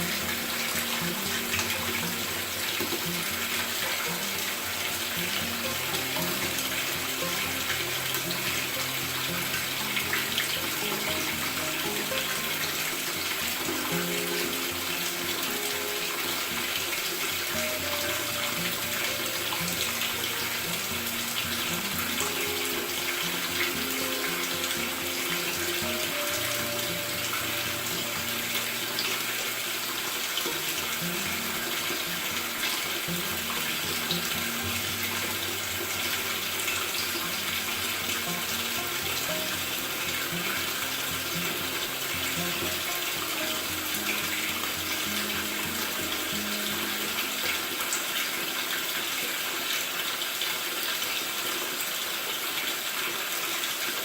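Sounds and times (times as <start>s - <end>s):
soft background music: 0.0s - 49.6s
water pouring into washer tub: 0.0s - 54.0s.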